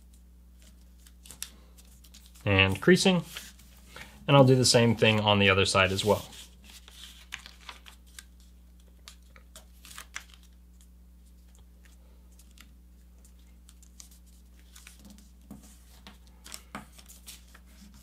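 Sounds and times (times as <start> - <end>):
paper rustling and crinkling: 0.0 - 18.0
steady low hum: 0.0 - 18.0.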